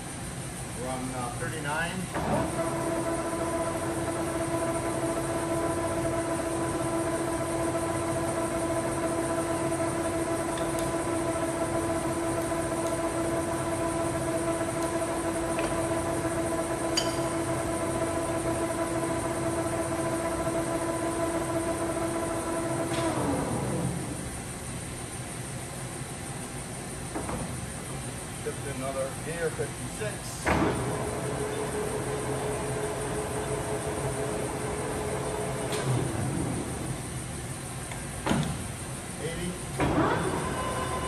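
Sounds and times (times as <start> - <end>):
lathe gearing whine: 0.0 - 41.0.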